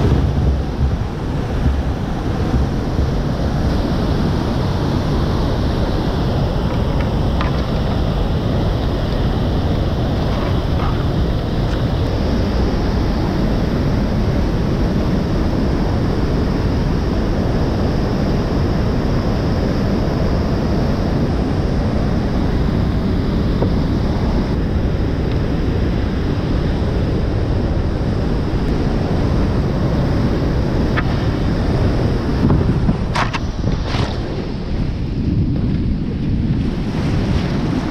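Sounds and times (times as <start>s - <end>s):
rushing river whitewater: 0.0s - 35.2s.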